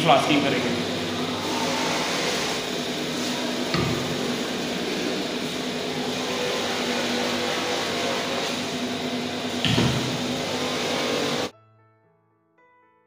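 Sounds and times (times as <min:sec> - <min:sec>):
gas burner roaring: 0:00.0 - 0:11.5.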